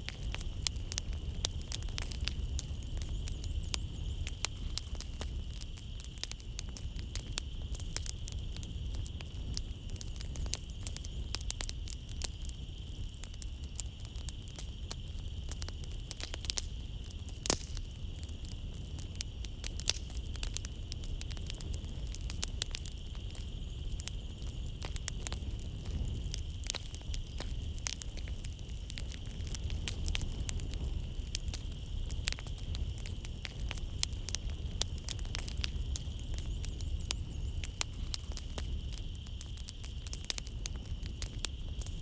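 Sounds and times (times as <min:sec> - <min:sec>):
fire popping and snapping: 0:00.0 - 0:42.0
low rumble of flames: 0:00.0 - 0:42.0
night insects chirring: 0:00.0 - 0:42.0.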